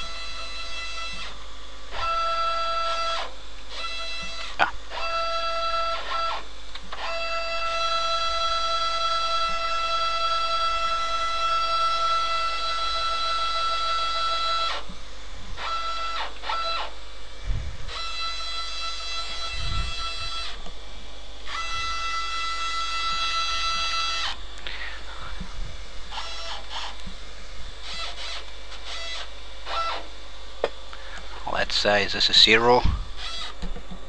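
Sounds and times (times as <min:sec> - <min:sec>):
mill axis motors whining: 0:00.0 - 0:34.0.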